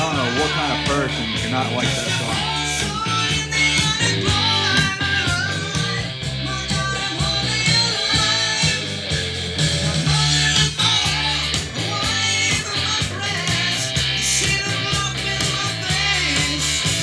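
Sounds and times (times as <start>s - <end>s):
rock song with guitar: 0.0s - 17.0s.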